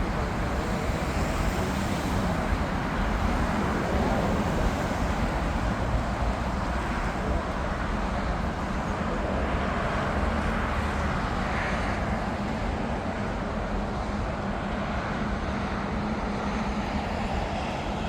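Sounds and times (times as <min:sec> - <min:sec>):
jet airliner engines running: 0:00.0 - 0:18.0.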